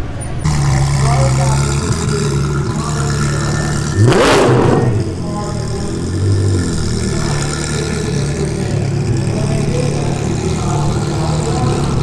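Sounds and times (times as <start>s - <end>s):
sports car engines at low speed: 0.0s - 12.0s.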